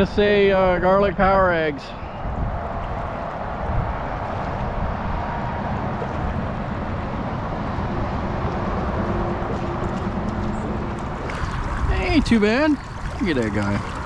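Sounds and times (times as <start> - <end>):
wind buffeting microphone: 0.0 - 14.0
rushing flooded creek: 1.6 - 14.0.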